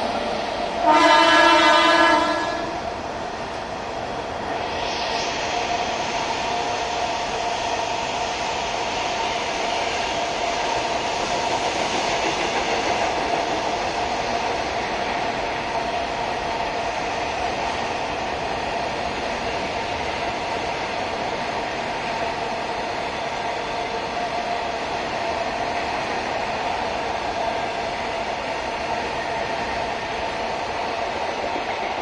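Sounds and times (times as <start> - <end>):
train rushing noise with hum: 0.0 - 32.0.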